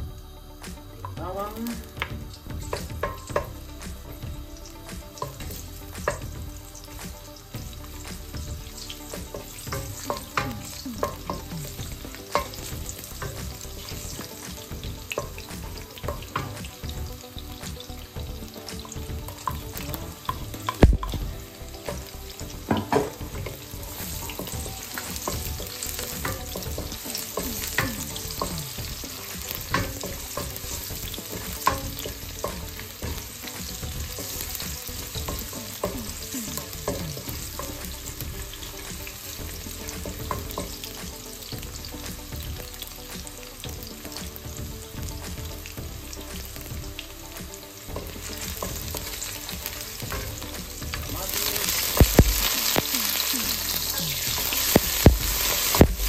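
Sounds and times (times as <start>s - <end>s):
garlic and onion sizzling: 0.0s - 56.0s.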